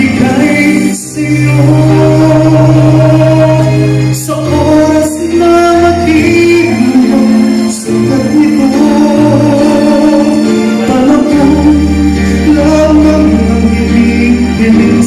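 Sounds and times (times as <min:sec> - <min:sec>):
instrumental backing music: 0:00.0 - 0:15.0
man singing into microphone: 0:00.0 - 0:15.0.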